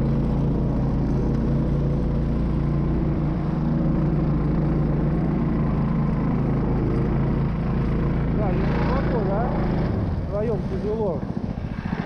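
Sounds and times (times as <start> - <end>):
snow vehicle engine running: 0.0 - 12.0.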